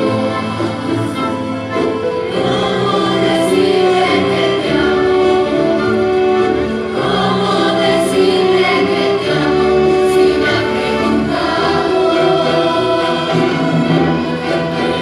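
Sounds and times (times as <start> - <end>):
symphony orchestra playing: 0.0 - 15.0
youth choir singing: 0.0 - 15.0.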